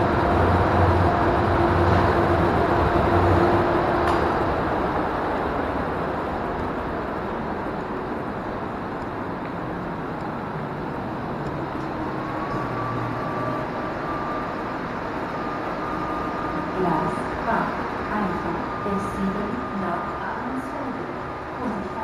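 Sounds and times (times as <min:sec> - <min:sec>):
electric train rumbling: 0:00.0 - 0:22.0
faint rising whine: 0:00.0 - 0:22.0.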